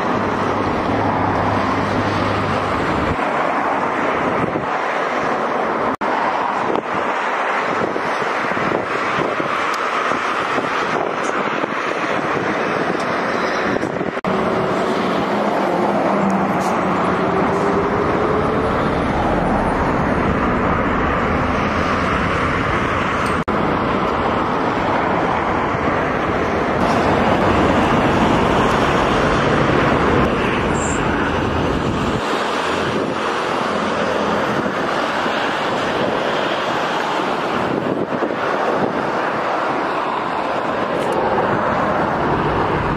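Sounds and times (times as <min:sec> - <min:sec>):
car road and engine noise: 0:00.0 - 0:42.9
wind buffeting microphone: 0:00.0 - 0:42.9.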